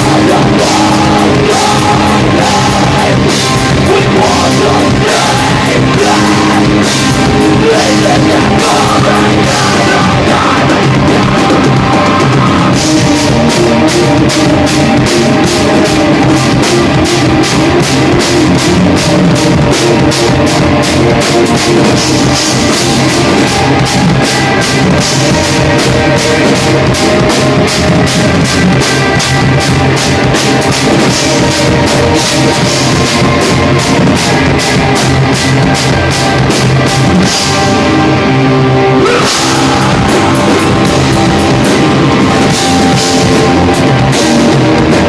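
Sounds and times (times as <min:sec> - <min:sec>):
drum kit: 0:00.0 - 0:45.0
electric guitars: 0:00.0 - 0:45.0.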